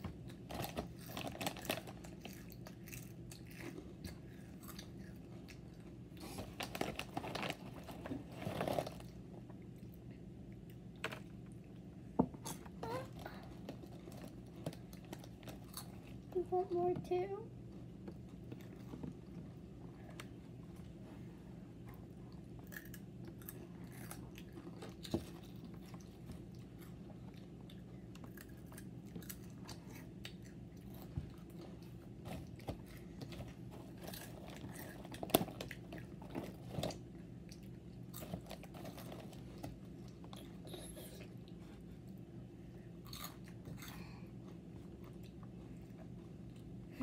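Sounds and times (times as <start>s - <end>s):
steady low hum: 0.0s - 47.0s
crunchy snack being chewed: 0.3s - 11.9s, 13.2s - 16.3s, 21.9s - 41.3s, 43.0s - 46.8s.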